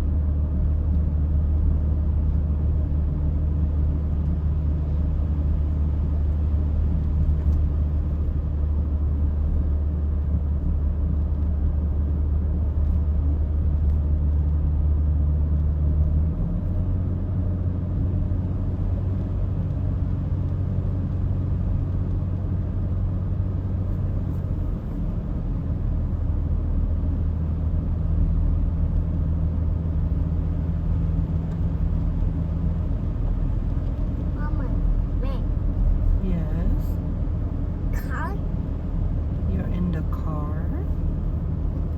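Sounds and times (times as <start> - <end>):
car engine and tyres droning: 0.0 - 41.9.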